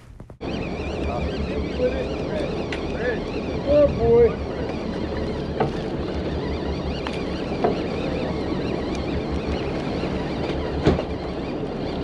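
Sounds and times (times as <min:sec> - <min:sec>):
low pulsing rumble: 0:00.0 - 0:12.0
water along boat hull: 0:00.4 - 0:12.0.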